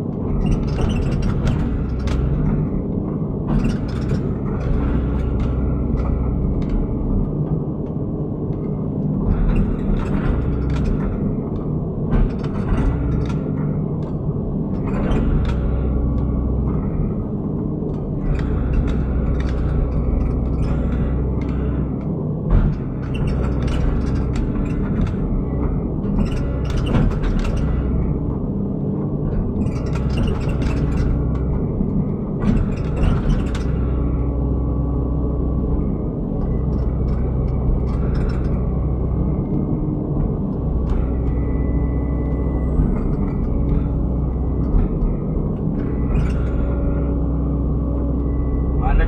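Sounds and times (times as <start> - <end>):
sharp clanks and knocks: 0.0 - 34.6, 35.8 - 47.2
diesel engine running: 0.2 - 49.0.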